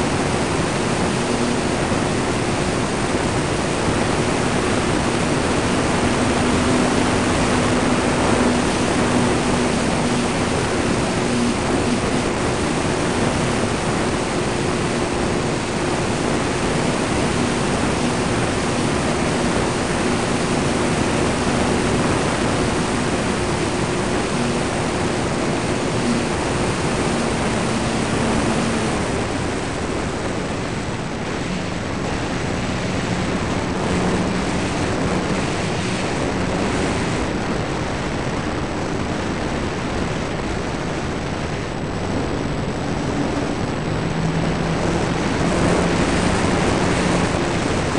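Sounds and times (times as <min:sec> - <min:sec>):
motor and propeller hum: 0:00.0 - 0:47.9
wind rushing over microphone: 0:00.0 - 0:47.9.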